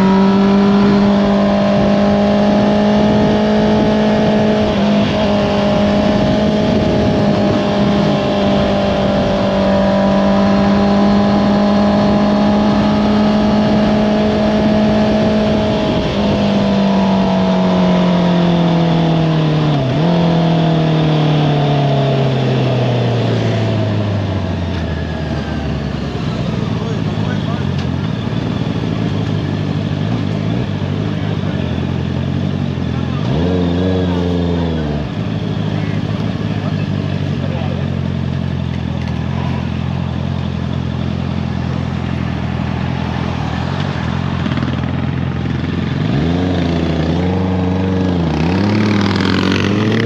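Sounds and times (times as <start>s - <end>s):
motorcycle engine: 0.0s - 50.0s.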